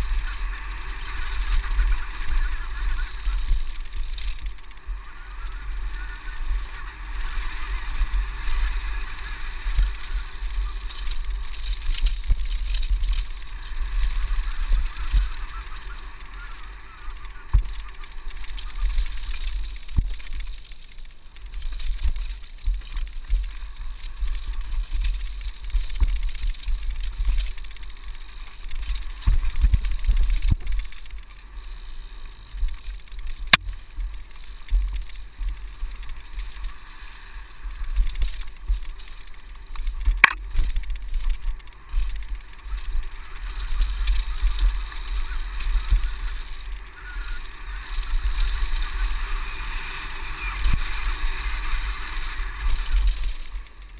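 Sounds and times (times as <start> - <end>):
bike rattling over bumps: 0.0 - 53.9.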